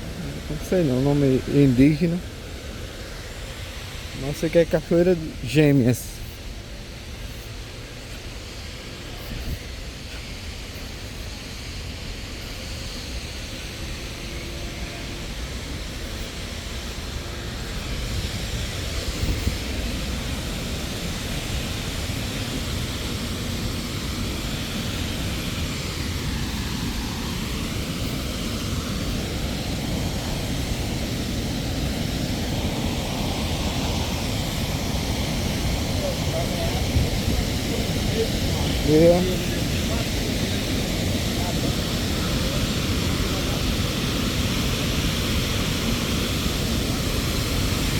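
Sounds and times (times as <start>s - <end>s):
waterfall rushing: 0.0s - 6.1s, 13.8s - 47.9s.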